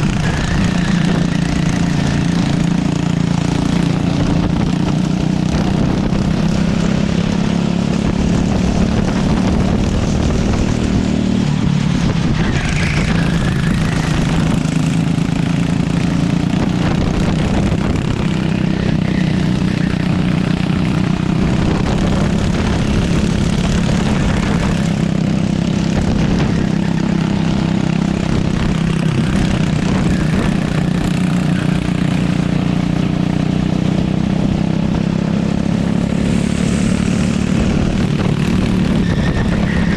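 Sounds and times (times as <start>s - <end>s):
racing kart engine: 0.0s - 39.9s
wind and road noise: 0.0s - 39.9s.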